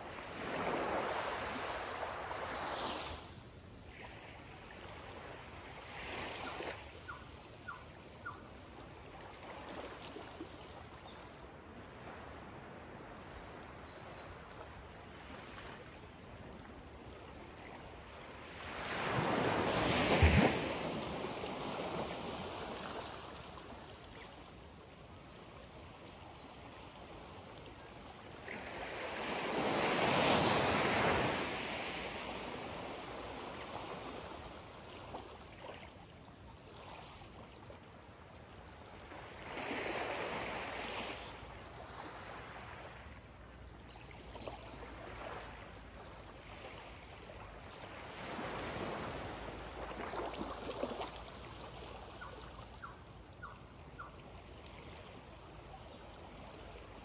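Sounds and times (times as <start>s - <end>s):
small waves lapping on sand: 0.0s - 57.0s.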